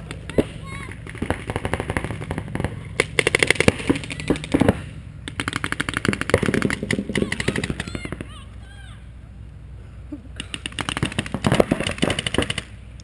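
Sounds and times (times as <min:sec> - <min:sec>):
paintball markers firing rapidly: 0:00.0 - 0:08.3, 0:10.4 - 0:12.8.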